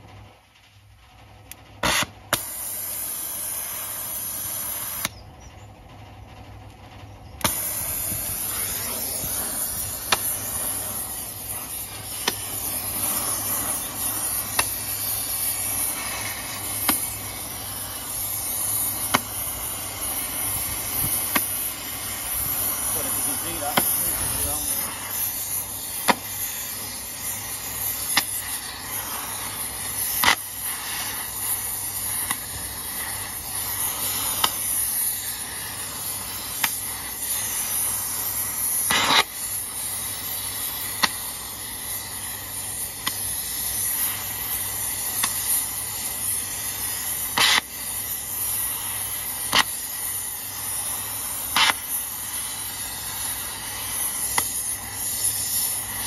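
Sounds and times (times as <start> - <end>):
torch flame hissing: 1.4 - 5.6, 6.5 - 56.0.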